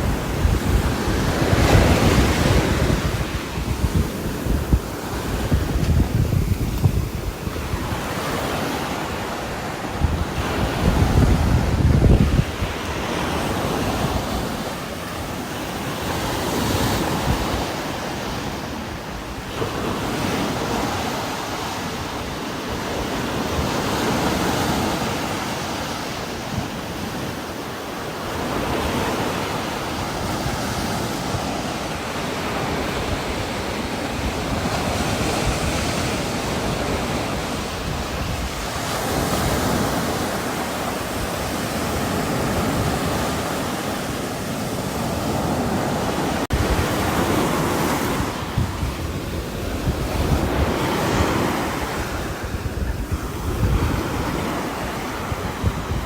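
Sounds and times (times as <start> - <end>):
strong wind gusting: 0.0 - 56.0.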